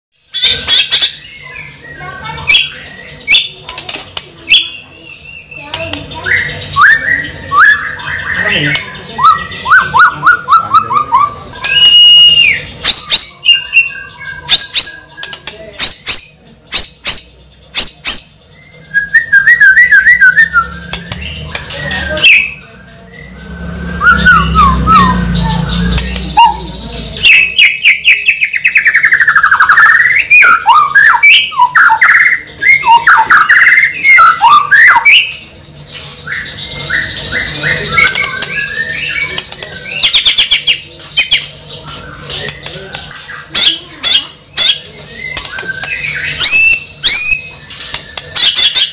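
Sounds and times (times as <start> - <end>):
bird calling: 0.2 - 48.9.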